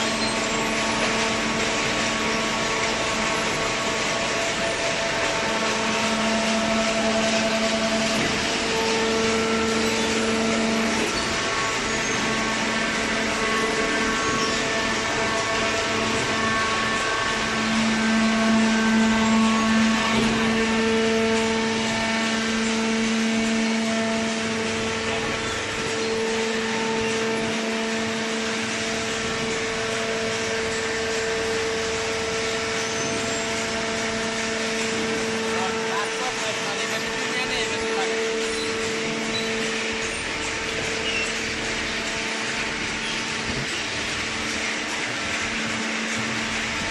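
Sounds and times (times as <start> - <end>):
baler motor and pump drone: 0.0 - 46.9
whining tone: 0.0 - 46.9.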